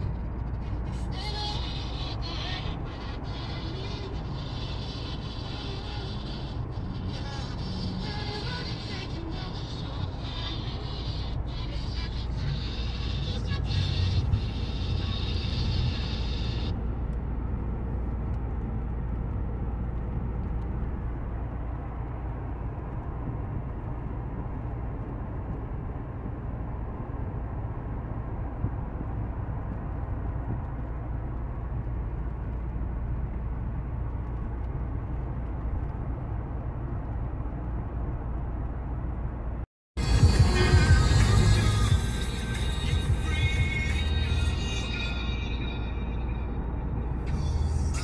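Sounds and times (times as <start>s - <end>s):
road and engine rumble: 0.0s - 48.0s.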